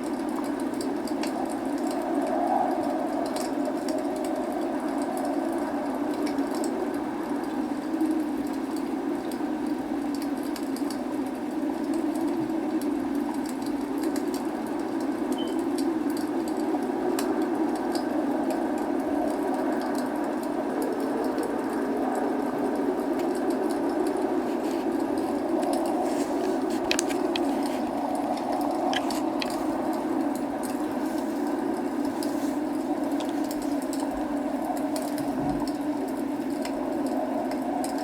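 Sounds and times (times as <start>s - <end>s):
log fire crackling and popping: 0.0s - 38.0s
rain hiss: 0.0s - 38.0s.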